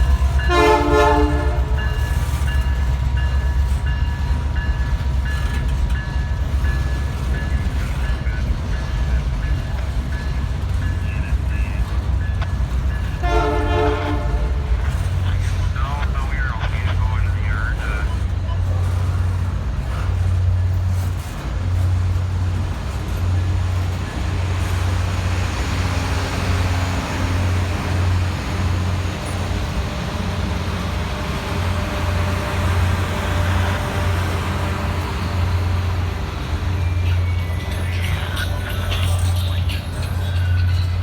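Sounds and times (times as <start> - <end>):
diesel locomotive pulsing drone: 0.0 - 41.0
rolling train noise: 0.0 - 41.0.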